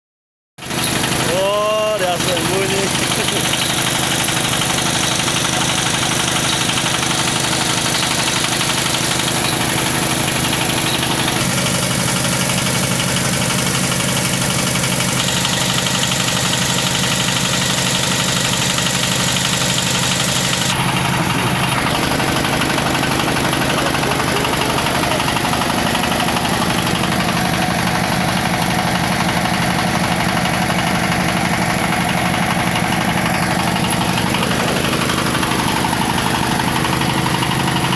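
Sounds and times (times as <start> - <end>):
drilling machine engine running: 0.6 - 37.9.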